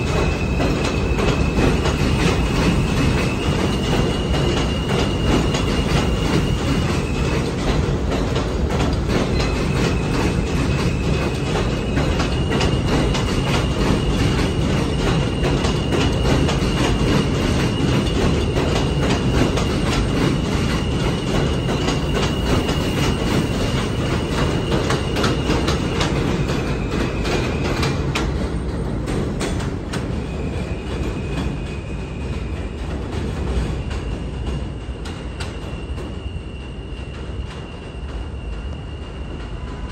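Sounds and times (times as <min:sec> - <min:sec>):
high squeal from wheels: 0:00.0 - 0:39.9
subway train rumble: 0:00.0 - 0:39.9.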